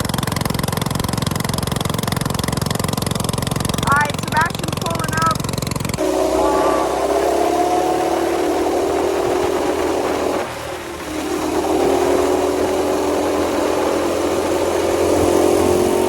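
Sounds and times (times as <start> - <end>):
small minibike engine running: 0.0 - 16.0.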